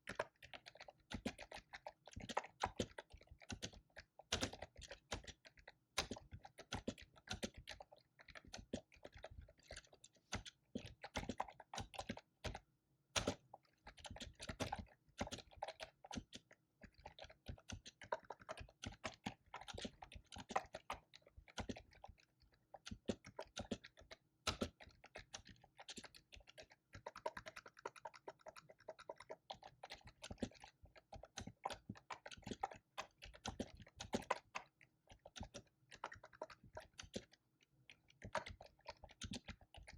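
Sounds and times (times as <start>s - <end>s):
fast typing on computer keyboard: 0.0s - 12.6s, 13.2s - 37.4s, 38.0s - 39.9s.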